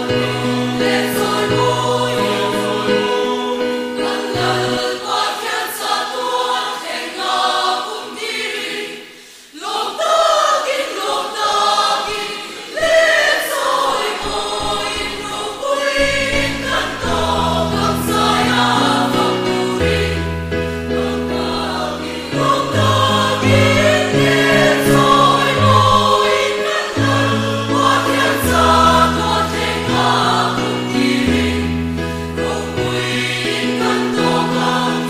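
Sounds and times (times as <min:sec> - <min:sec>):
church choir singing: 0:00.0 - 0:35.0.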